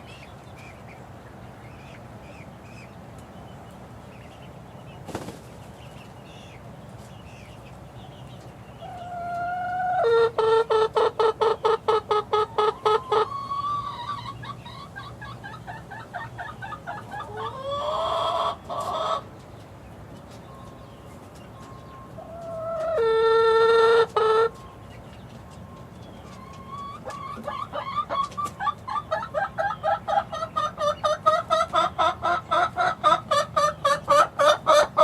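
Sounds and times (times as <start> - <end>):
chicks peeping and chirping: 0.0 - 35.0
drawn-out chick calls: 0.0 - 35.0.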